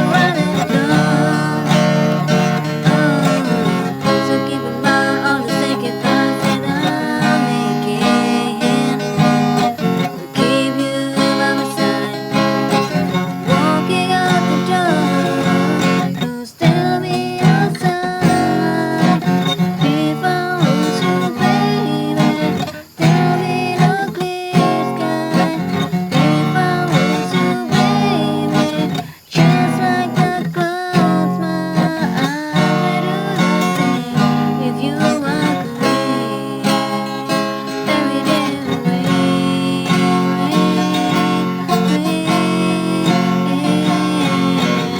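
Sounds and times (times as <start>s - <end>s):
acoustic guitar strumming: 0.0s - 44.9s
person singing: 0.0s - 44.9s.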